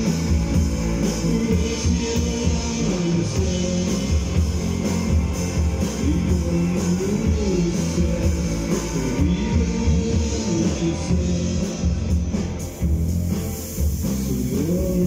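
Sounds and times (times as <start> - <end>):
live rock band: 0.0 - 15.0.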